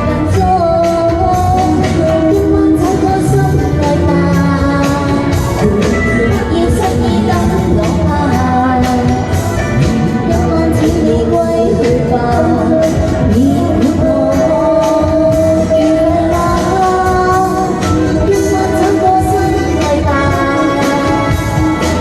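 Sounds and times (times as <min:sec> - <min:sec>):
person singing: 0:00.0 - 0:22.0
pop backing track with beat: 0:00.0 - 0:22.0.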